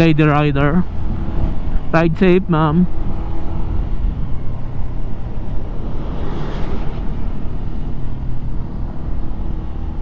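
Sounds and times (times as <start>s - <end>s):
wind rumble on microphone: 0.0s - 2.2s, 2.8s - 10.0s.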